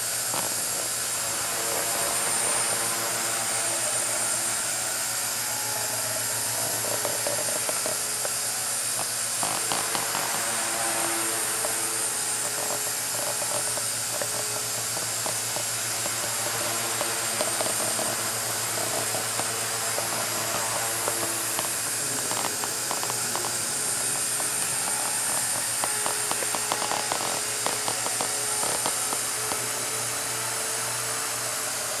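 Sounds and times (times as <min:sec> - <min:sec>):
model helicopter rotors whirring: 0:00.0 - 0:32.0.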